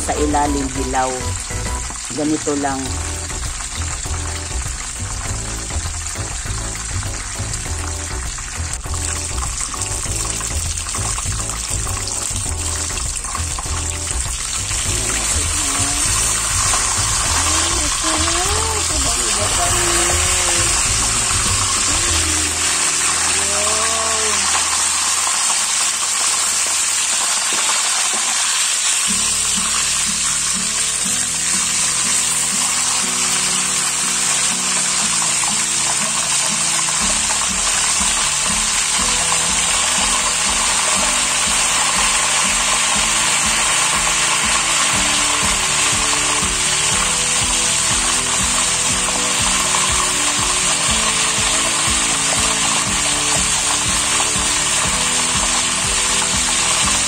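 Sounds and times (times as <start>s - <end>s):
background music: 0.0s - 57.0s
chicken sizzling in hot oil: 0.0s - 57.0s.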